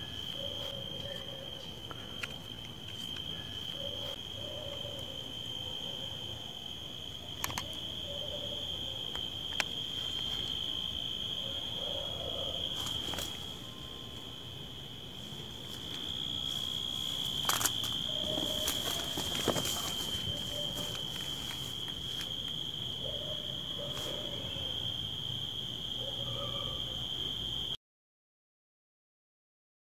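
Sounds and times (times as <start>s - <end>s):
crickets chirping: 0.0s - 27.8s.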